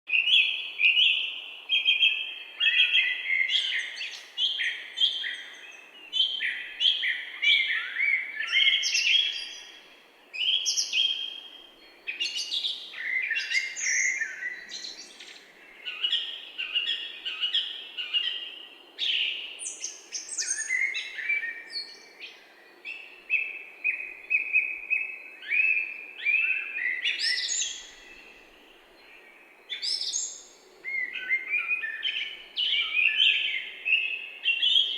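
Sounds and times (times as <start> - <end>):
faint steady background hiss: 0.1 - 34.9
small birds singing and chirping: 0.1 - 34.9.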